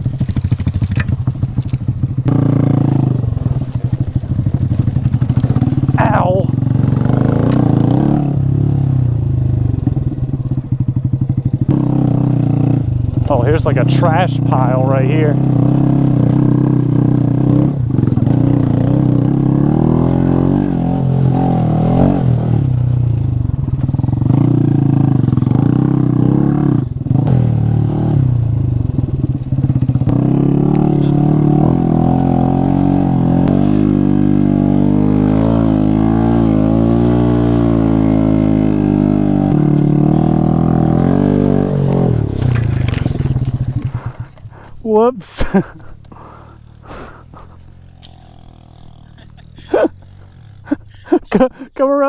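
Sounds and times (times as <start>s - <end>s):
motorcycle engine revving: 0.0s - 51.7s.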